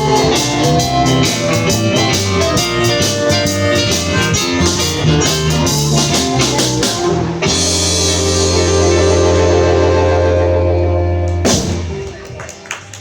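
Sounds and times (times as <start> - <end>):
blues-rock band playing: 0.0 - 12.4.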